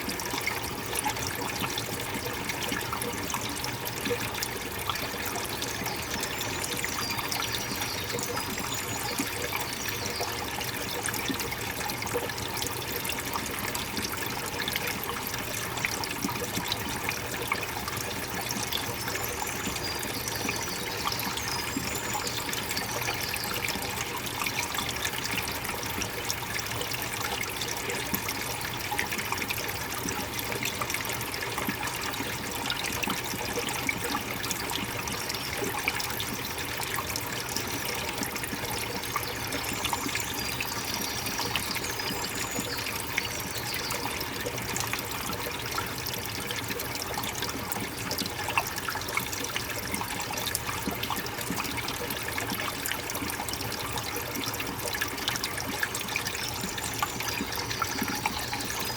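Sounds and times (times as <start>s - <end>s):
water trickling over rocks: 0.0s - 58.9s.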